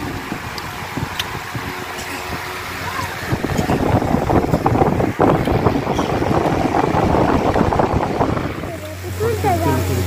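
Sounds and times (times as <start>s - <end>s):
fan wind rumbling on microphone: 0.0s - 10.0s.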